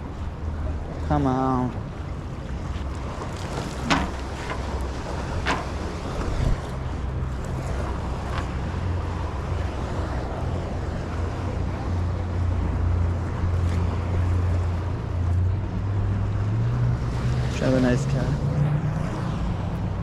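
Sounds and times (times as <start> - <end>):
ocean waves: 0.0 - 20.0
wind rumbling on microphone: 0.0 - 20.0.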